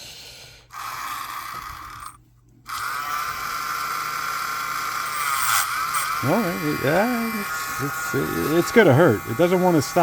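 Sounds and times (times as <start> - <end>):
mini vacuum cleaner whining: 0.6 - 10.0.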